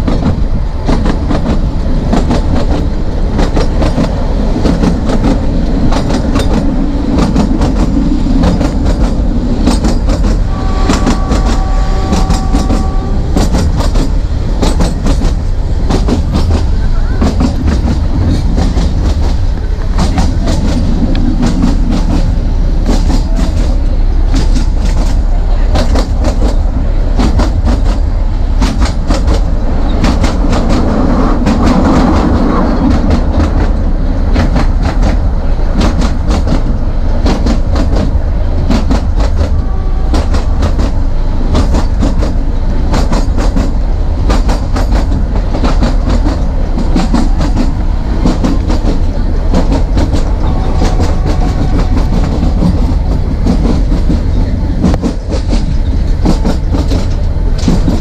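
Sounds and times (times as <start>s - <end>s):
train low rumble: 0.0s - 58.0s
train wheels clattering: 0.0s - 58.0s.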